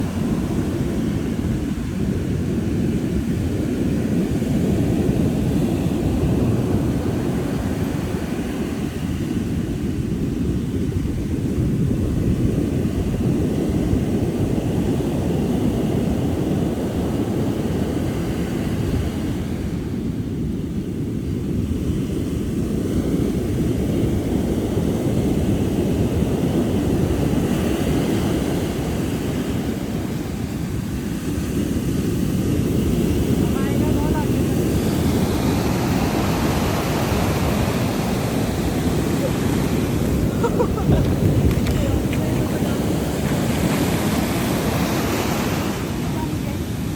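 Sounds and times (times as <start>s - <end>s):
ocean waves breaking on beach: 0.0s - 46.9s.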